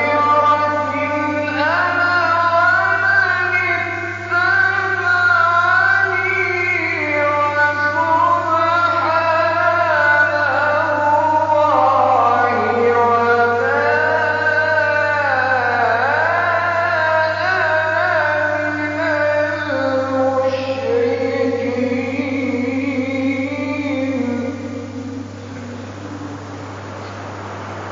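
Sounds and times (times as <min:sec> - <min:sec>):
man chanting recitation: 0:00.0 - 0:26.6
steady low hum: 0:00.0 - 0:27.9.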